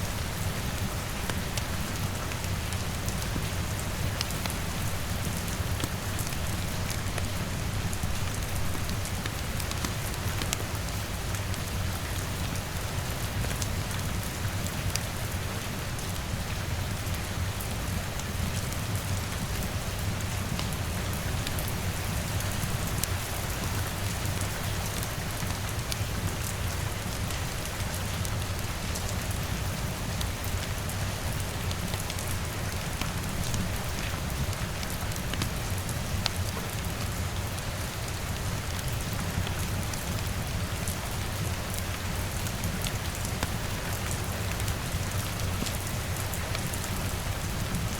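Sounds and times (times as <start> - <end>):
sharp ticks of raindrops: 0.0 - 47.9.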